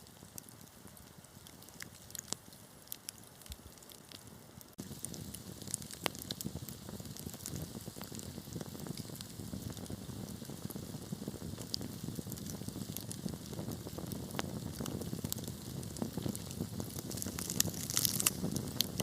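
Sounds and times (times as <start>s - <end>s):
low rush of flames: 0.0s - 19.0s
wood fire crackling and popping: 0.0s - 19.0s.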